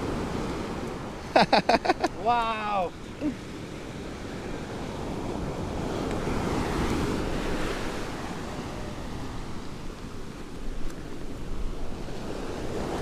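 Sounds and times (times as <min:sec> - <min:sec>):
surf breaking on beach: 0:00.0 - 0:13.0
wind rumbling on microphone: 0:00.0 - 0:13.0.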